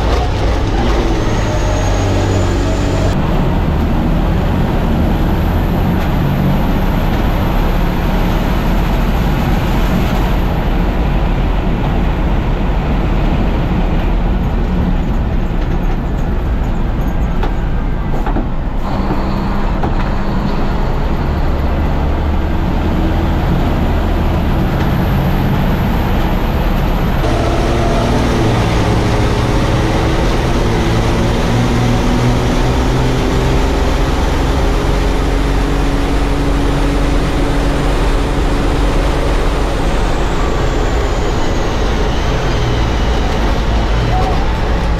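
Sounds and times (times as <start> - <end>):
racing truck engines running hard: 0.0 - 44.9.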